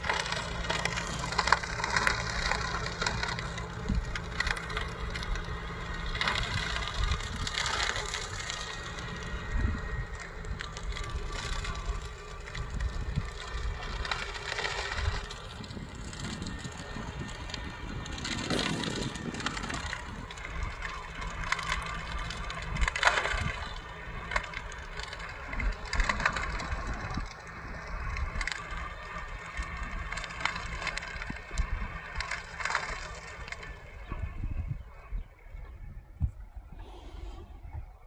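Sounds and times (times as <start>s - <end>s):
crunching and crackling: 0.0s - 35.8s
tractor engine hum: 0.0s - 38.0s.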